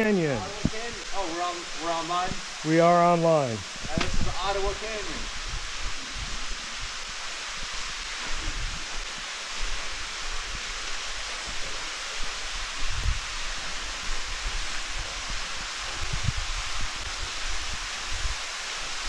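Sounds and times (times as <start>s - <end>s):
leaves rustling in wind: 0.0s - 19.0s.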